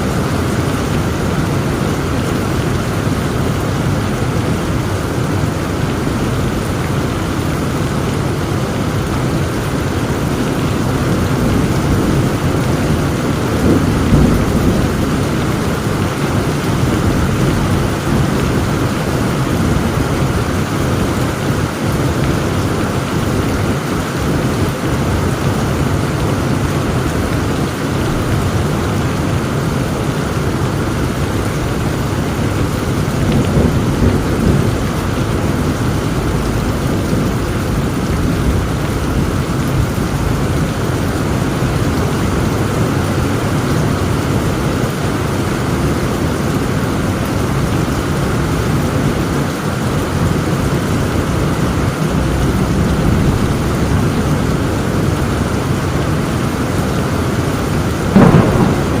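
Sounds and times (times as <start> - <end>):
heavy rain falling: 0.0 - 59.0
low thunder rumbling: 0.1 - 56.9, 57.6 - 59.0.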